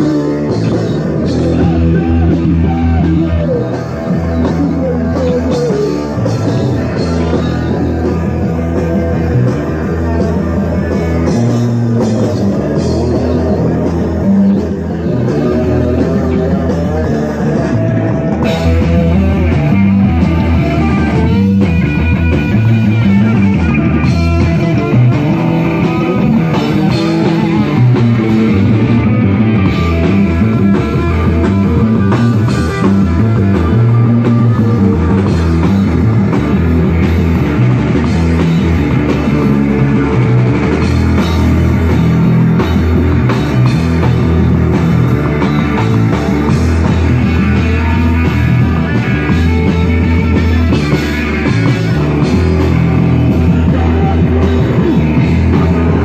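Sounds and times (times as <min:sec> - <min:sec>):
rock band playing: 0:00.0 - 0:56.0.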